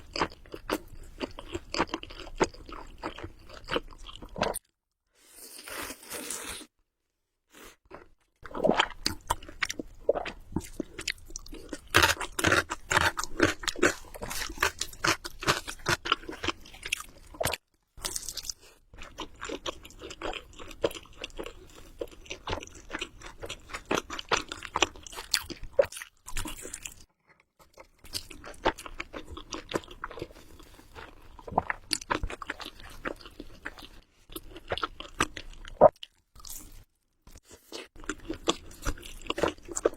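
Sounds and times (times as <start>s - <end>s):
wet chewing and biting: 7.9s - 39.9s.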